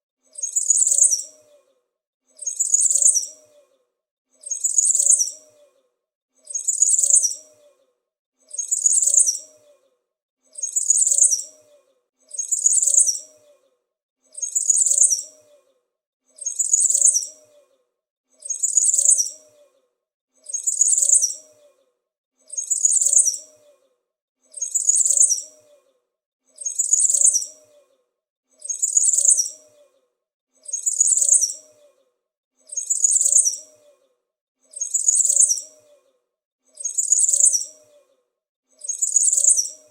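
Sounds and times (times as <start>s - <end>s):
small bird chirping: 0.3s - 3.7s, 4.4s - 5.8s, 6.4s - 7.8s, 8.4s - 9.9s, 10.5s - 13.7s, 14.3s - 15.7s, 16.4s - 17.8s, 18.4s - 19.8s, 20.4s - 23.9s, 24.5s - 28.0s, 28.6s - 38.2s, 38.8s - 39.9s.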